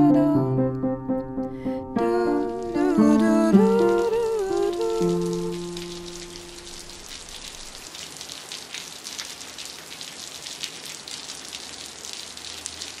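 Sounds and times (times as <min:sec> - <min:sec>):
steady rain patter: 0:02.3 - 0:13.0.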